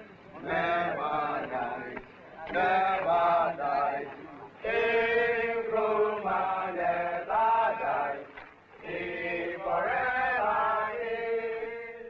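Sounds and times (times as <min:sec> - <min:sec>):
slow chanted singing: 0:00.0 - 0:12.0.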